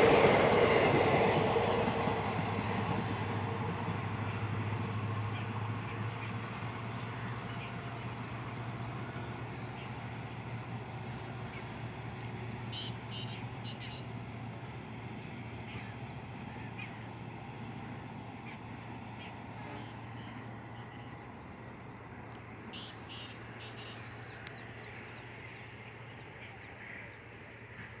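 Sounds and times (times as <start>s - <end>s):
distant diesel train drone: 0.0s - 28.0s.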